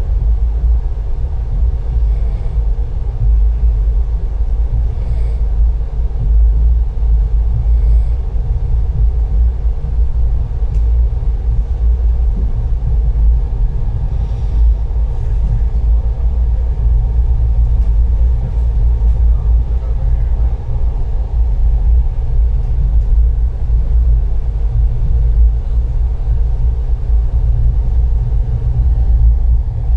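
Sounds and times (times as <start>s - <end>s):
train rumbling: 0.0s - 29.9s.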